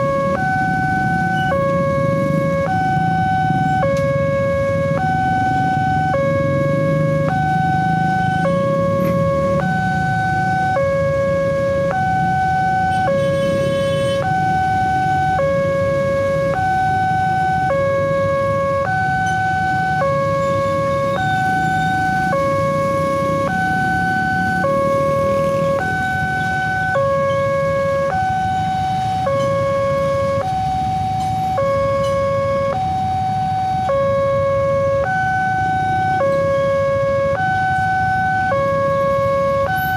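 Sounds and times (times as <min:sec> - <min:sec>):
motorcycle engines rumbling: 0:00.0 - 0:39.9
two-tone crossing alarm chime: 0:00.0 - 0:39.9.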